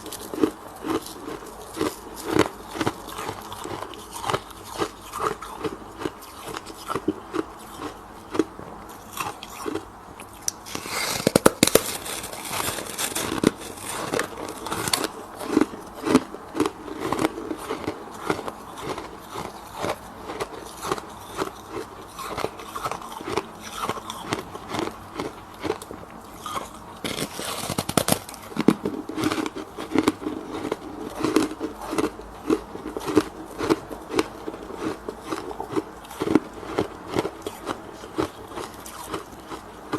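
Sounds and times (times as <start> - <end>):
frost being chewed crunching: 0.0 - 39.9.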